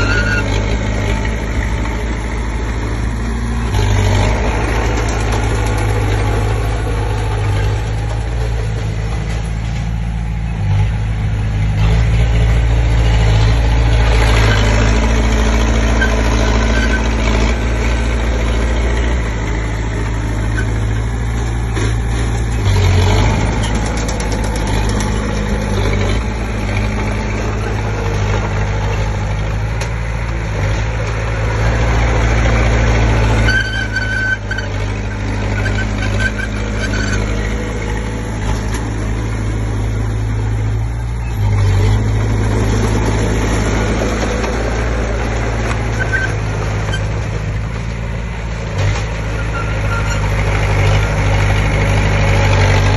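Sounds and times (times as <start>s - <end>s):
bulldozer diesel engine running: 0.0s - 52.9s.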